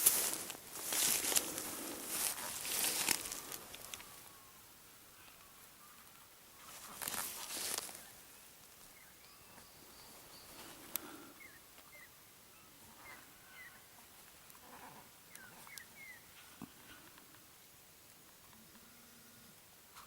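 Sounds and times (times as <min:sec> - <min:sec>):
rustle: 0:00.0 - 0:20.0.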